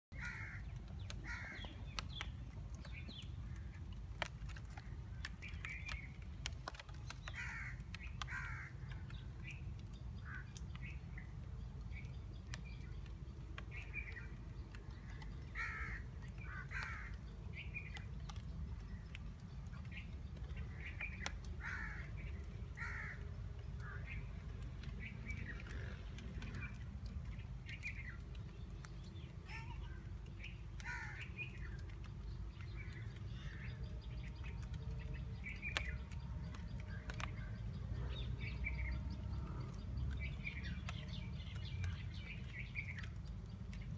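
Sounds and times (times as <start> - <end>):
faint ticks: 0.2 - 43.9.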